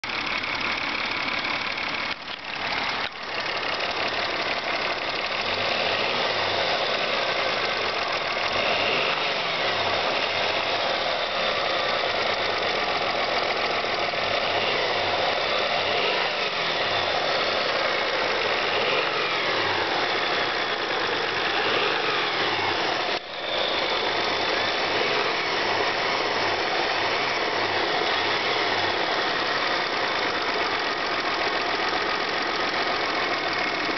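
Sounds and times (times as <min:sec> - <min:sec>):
car engine knocking: 0:00.0 - 0:33.9.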